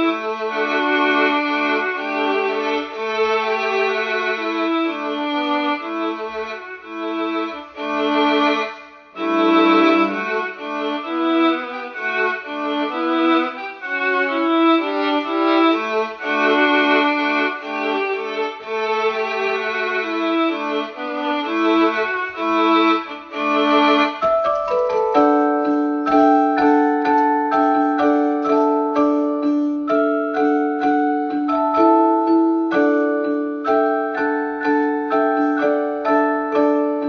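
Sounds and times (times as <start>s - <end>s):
violin playing a melody: 0.0s - 37.0s.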